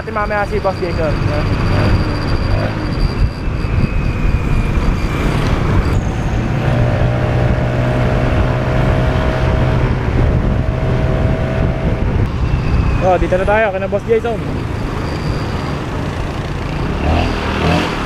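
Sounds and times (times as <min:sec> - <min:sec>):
motorcycle engine drone: 0:00.0 - 0:18.0
wind and road noise: 0:00.0 - 0:18.0.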